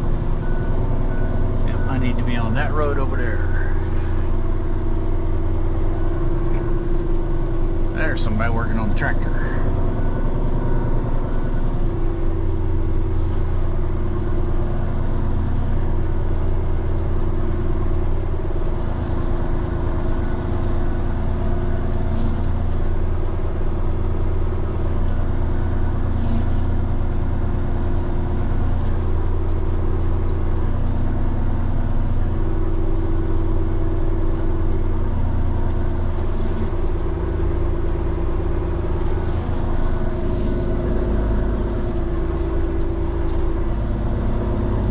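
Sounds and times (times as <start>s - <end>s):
truck diesel engine droning: 0.0s - 44.9s.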